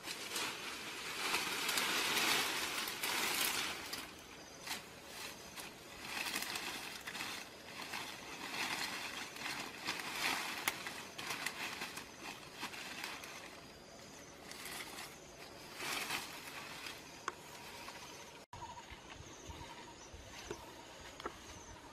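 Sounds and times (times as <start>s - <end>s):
dry grass and leaves rustling: 0.0s - 21.9s.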